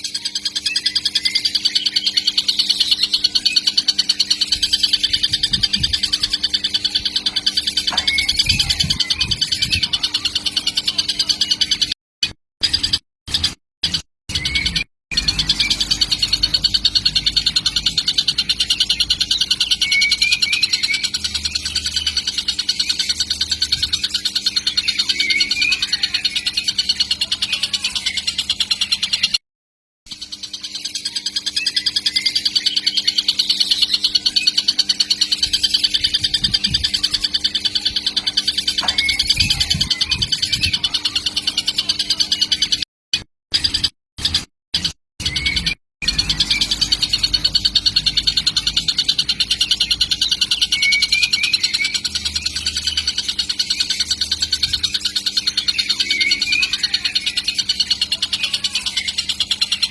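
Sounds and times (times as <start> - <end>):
kingfisher chick high-pitched rattle: 0.0 - 12.0, 12.7 - 29.4, 30.1 - 59.9.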